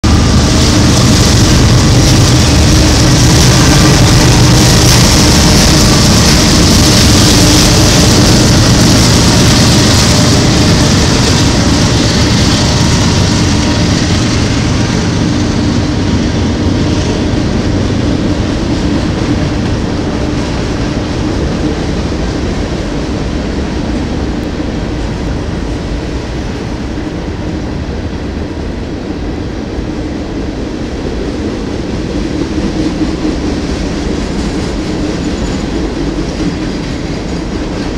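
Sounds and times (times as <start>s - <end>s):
freight cars clattering on rails: 0.0s - 27.0s, 31.0s - 37.9s
diesel engine drone: 0.0s - 34.2s.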